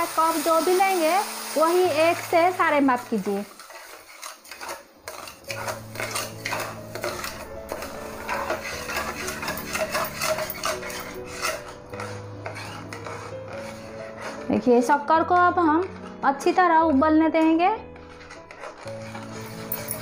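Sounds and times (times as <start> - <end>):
soft background music: 0.0 - 3.6, 4.8 - 20.0
spatula scraping a pan: 1.9 - 16.7, 17.9 - 20.0.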